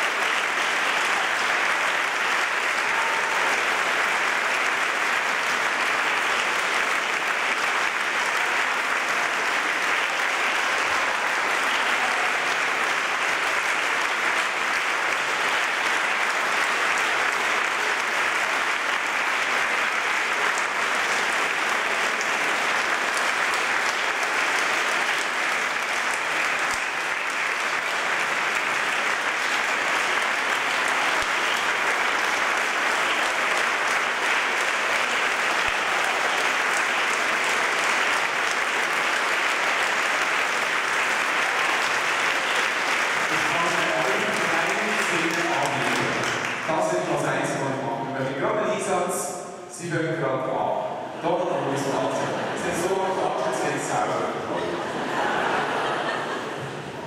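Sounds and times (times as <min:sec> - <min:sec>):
large audience applauding: 0:00.0 - 0:47.8, 0:51.2 - 0:57.0.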